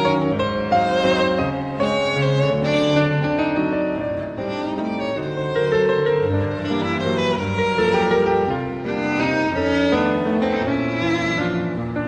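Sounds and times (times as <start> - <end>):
bowed strings music: 0.0 - 12.0.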